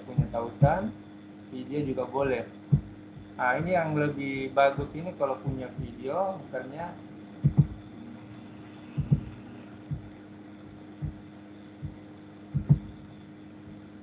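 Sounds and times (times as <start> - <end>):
soft low thumps: 0.0 - 1.0, 1.8 - 13.9
steady low hum: 0.0 - 14.0.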